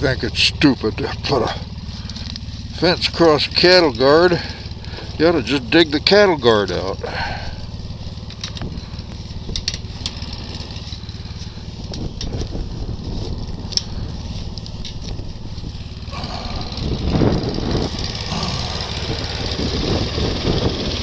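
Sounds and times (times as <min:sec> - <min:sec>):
atv engine idling: 0:00.0 - 0:21.0.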